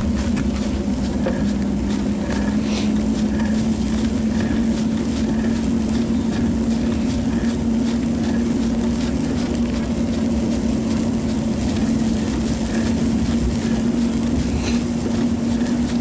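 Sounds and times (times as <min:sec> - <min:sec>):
motor drone: 0:00.0 - 0:16.0
road and wind noise: 0:00.0 - 0:16.0.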